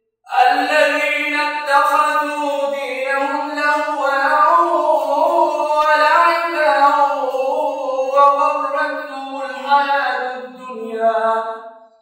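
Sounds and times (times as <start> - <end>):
man chanting: 0.3 - 11.6.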